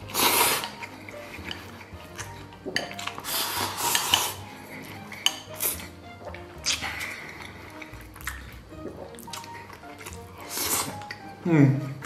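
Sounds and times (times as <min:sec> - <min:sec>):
slurping and chewing: 0:00.0 - 0:12.0.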